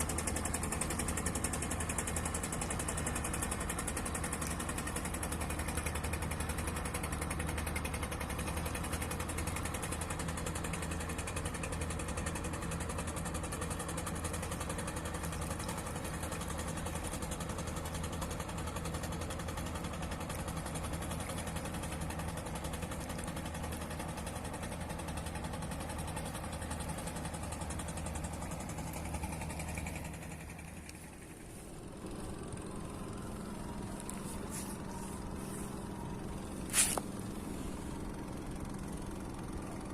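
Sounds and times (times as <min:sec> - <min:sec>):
boat engine humming: 0:00.0 - 0:39.9
higher-pitched engine: 0:00.0 - 0:39.9.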